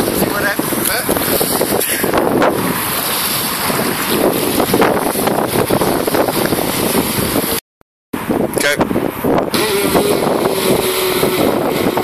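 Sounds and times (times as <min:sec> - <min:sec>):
small waves washing ashore: 0:00.0 - 0:07.6, 0:09.1 - 0:12.0
wind buffeting microphone: 0:00.0 - 0:07.6, 0:08.2 - 0:12.0.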